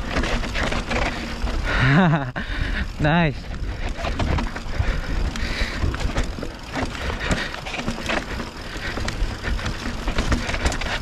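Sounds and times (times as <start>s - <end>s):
bike clattering over bumps: 0.0s - 11.0s
bike tyres on dirt trail: 0.0s - 11.0s.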